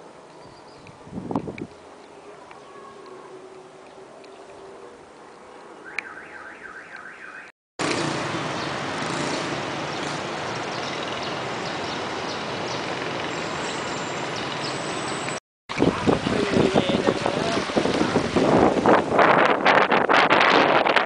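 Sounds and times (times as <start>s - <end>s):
motorbike traffic noise: 1.0s - 21.0s.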